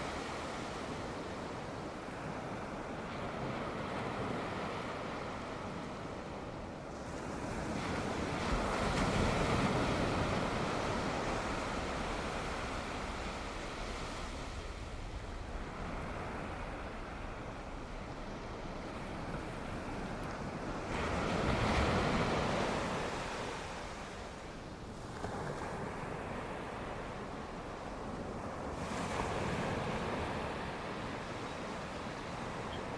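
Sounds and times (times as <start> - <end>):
sea waves washing ashore: 0.0 - 32.9.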